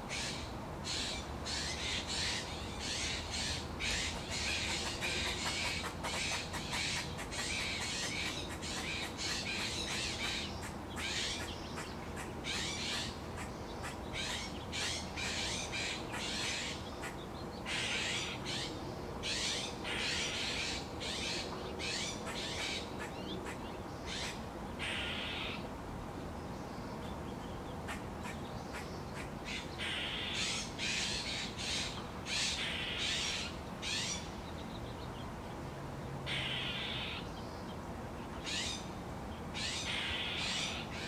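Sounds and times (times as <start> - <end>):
birds squawking: 0.1 - 25.6, 27.8 - 34.4, 36.3 - 37.3, 38.4 - 38.9, 39.5 - 41.0.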